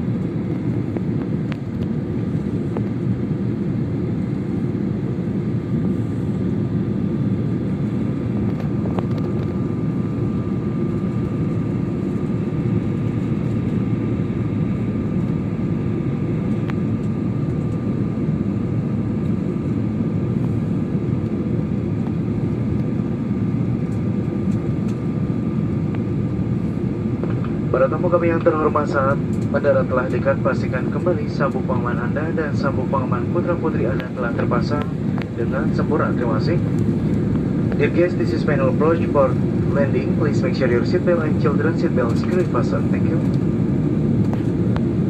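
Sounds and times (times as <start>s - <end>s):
jet cabin engine and airflow rush: 0.0s - 45.0s.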